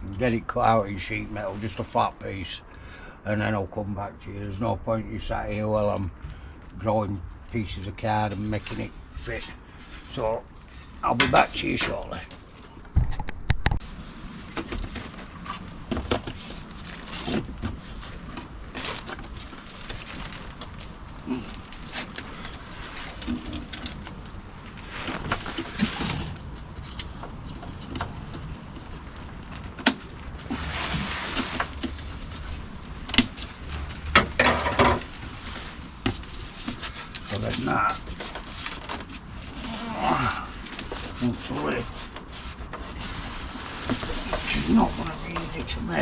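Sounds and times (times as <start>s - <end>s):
rustling or scraping: 8.0s - 46.0s.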